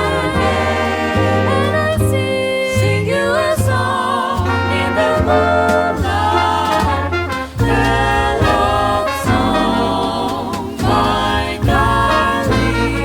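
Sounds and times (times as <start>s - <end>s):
bass line: 0.0s - 13.0s
close-harmony vocal group singing: 0.0s - 13.0s.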